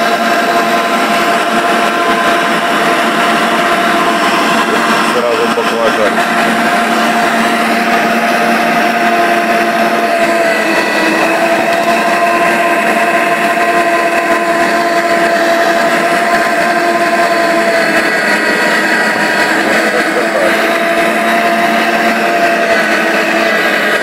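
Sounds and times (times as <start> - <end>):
electric meat grinder running: 0.0 - 24.0.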